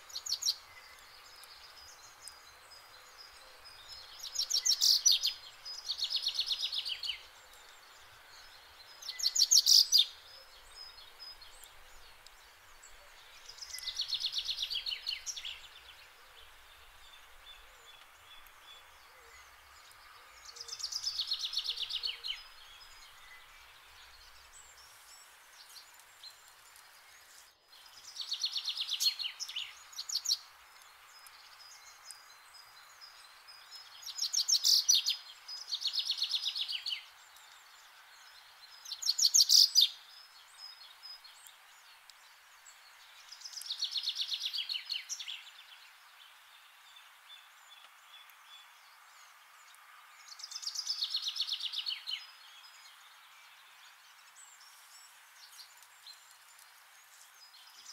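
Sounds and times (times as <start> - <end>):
faint steady background hiss: 0.0 - 57.9.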